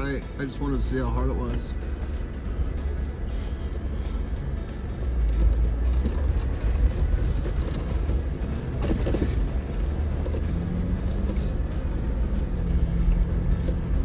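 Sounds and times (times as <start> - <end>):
low engine note: 0.0 - 14.0
off-road vehicle engine rumble: 0.0 - 14.0.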